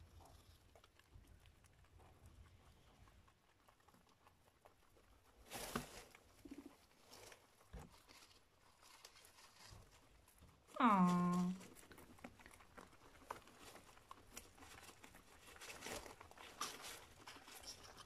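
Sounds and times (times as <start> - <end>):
guinea pigs chewing hay: 0.0 - 18.0.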